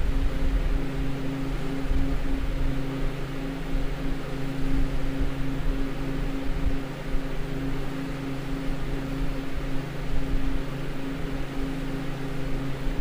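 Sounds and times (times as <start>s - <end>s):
refrigeration unit humming: 0.0s - 13.0s.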